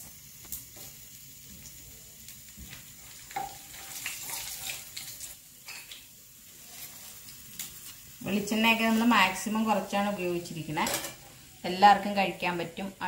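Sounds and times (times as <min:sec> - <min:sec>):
frying oil sizzling and popping: 0:00.0 - 0:13.0.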